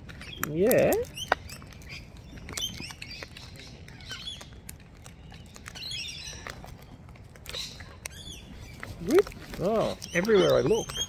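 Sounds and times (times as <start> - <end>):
birds chirping softly: 0.0 - 11.0.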